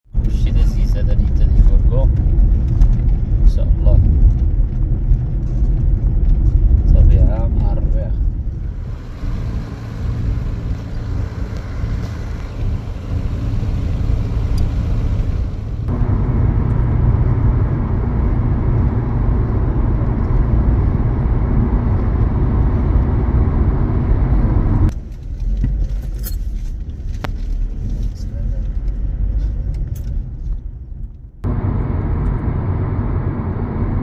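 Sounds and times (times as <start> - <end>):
vehicle engine and road rumble: 0.0 - 34.0.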